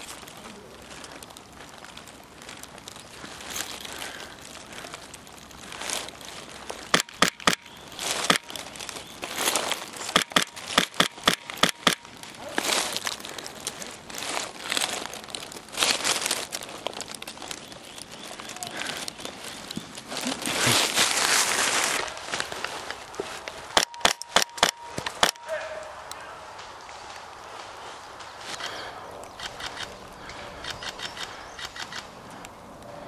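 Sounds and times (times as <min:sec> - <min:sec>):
sharp cracks: 0:00.0 - 0:32.9
dry undergrowth rustling: 0:00.0 - 0:33.0.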